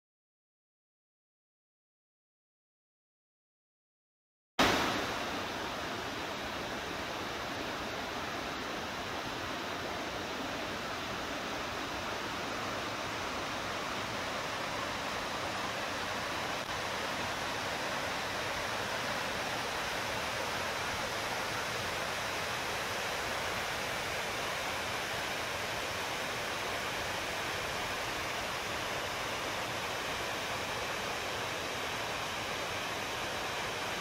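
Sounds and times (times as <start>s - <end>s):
waterfall rushing: 4.6s - 34.0s.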